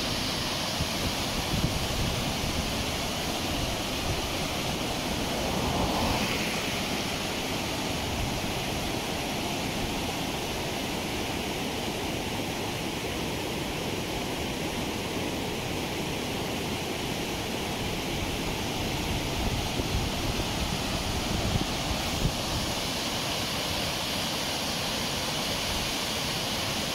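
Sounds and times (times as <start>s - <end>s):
river rapids rushing: 0.0s - 26.9s.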